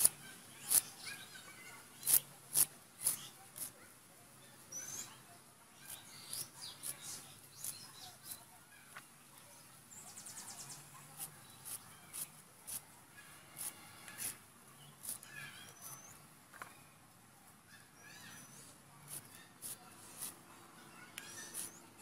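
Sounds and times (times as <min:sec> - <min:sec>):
bird chirping: 0:00.0 - 0:02.3, 0:04.4 - 0:12.4, 0:13.1 - 0:17.0, 0:17.6 - 0:22.0.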